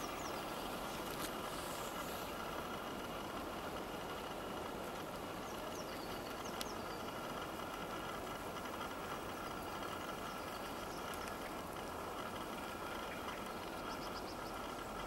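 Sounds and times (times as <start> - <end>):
outdoor background rush: 0.0 - 15.0.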